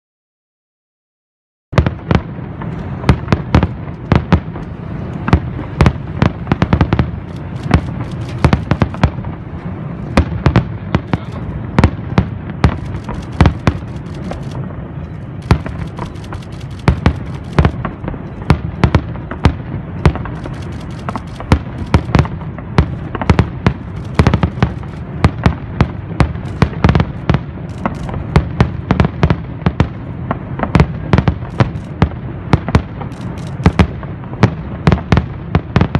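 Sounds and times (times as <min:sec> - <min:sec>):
distant firework bursts rumbling: 0:01.8 - 0:35.9
fireworks cracking and banging: 0:01.8 - 0:35.9.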